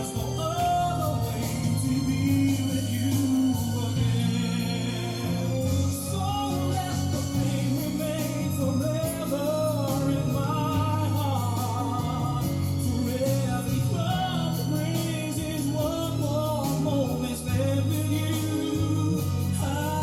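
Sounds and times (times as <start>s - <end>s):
instrumental accompaniment: 0.0s - 20.0s
man singing love ballad: 0.0s - 20.0s.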